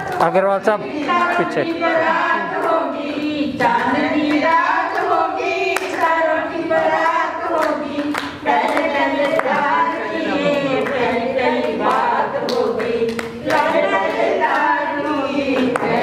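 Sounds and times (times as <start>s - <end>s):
hand claps: 0.0s - 0.4s, 1.0s - 16.0s
group of voices singing: 0.0s - 16.0s.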